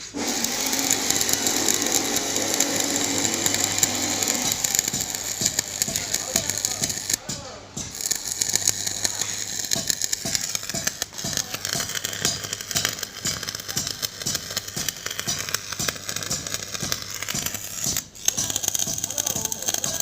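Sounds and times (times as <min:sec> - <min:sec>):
arc welding crackling: 0:00.0 - 0:20.0.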